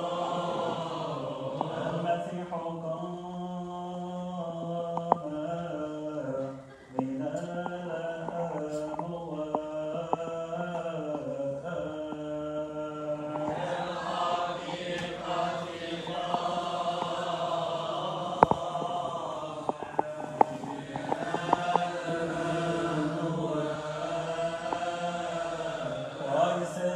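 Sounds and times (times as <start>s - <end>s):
liturgical chant singing: 0.0s - 26.9s.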